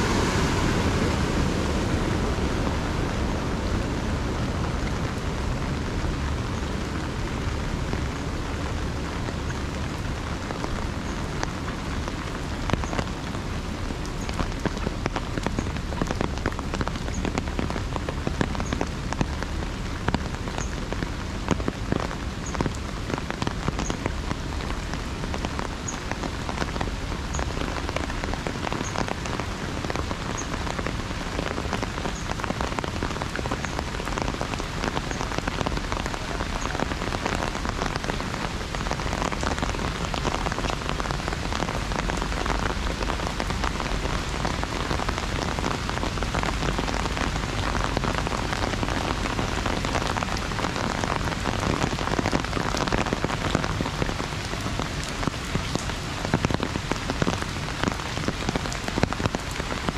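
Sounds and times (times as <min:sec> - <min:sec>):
heavy rain on an umbrella: 0:00.0 - 0:59.9.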